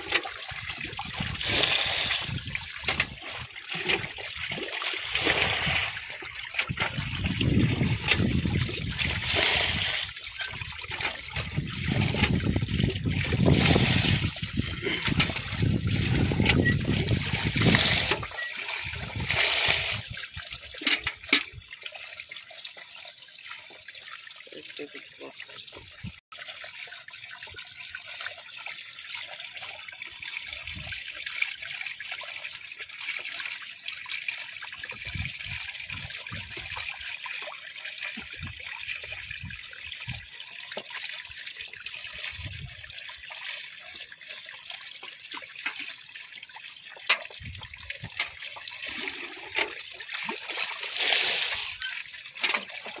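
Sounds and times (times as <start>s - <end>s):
rush of water: 0.0s - 53.0s
water trickling over mud: 0.0s - 53.0s.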